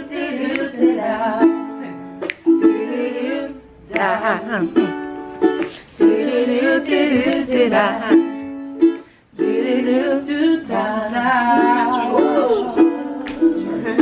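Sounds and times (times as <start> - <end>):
song with singing: 0.0 - 14.0.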